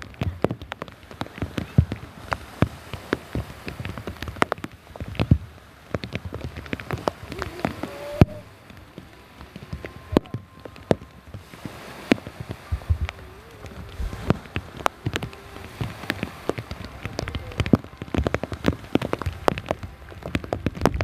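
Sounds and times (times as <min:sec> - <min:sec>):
heavy rain drops tapping: 0:00.0 - 0:21.0.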